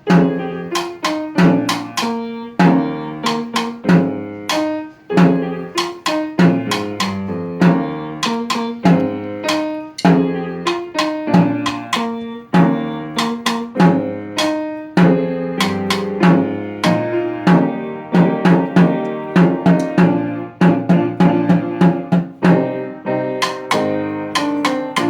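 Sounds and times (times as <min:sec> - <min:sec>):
sharply struck pitched notes: 0:00.1 - 0:22.8.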